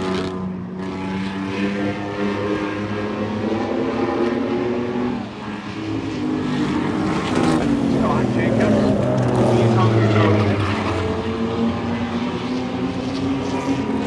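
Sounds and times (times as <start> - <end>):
racing truck engines: 0.0 - 14.0.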